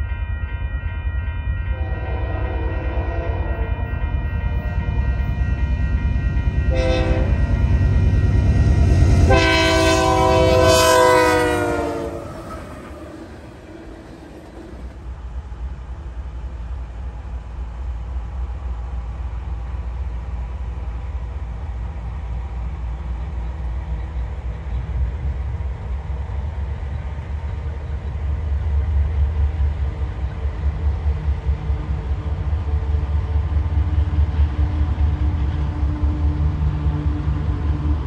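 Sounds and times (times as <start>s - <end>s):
diesel locomotive engine rumble: 0.0s - 38.0s.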